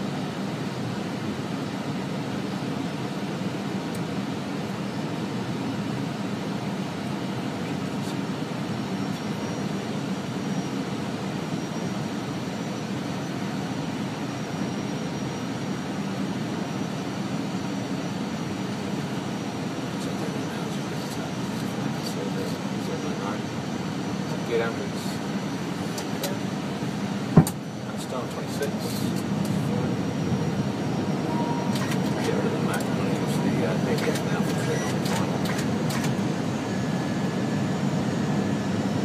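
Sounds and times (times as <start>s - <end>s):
airliner cabin engine drone: 0.0s - 39.0s
faint high whine: 0.0s - 39.0s.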